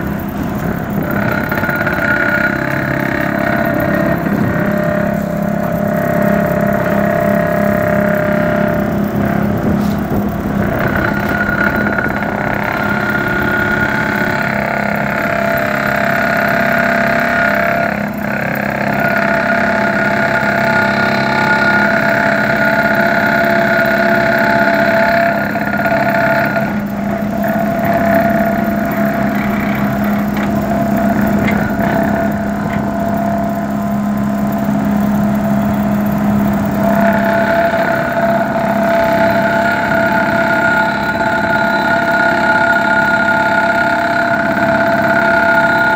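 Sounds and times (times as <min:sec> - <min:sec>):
diesel engine running: 0:00.0 - 0:45.9
steady whine: 0:00.0 - 0:45.9.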